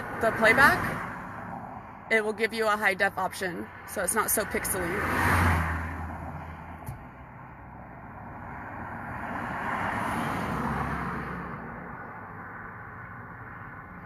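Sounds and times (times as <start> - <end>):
road vehicles passing: 0.0 - 14.0.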